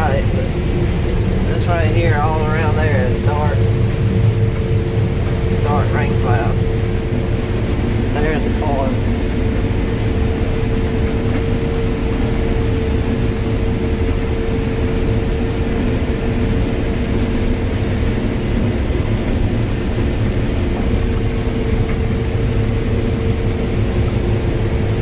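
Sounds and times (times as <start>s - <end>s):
combine harvester rumbling: 0.0s - 25.0s
mid-pitched machine whine: 0.0s - 25.0s.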